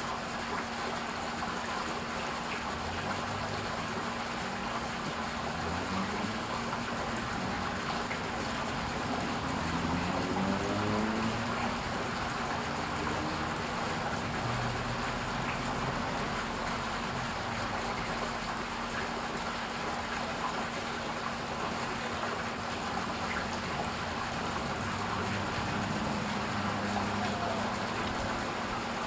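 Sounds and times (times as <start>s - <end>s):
fountain water trickling and splashing: 0.0s - 29.0s.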